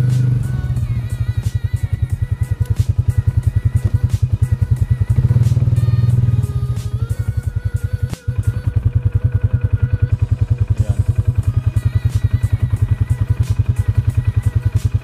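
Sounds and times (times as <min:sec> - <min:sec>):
farm bike engine idling: 0:00.0 - 0:15.0.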